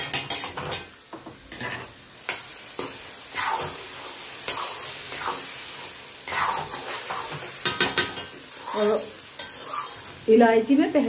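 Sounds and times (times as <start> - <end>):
steel spoon scraping metal pan: 0.0 - 0.9, 1.5 - 10.2.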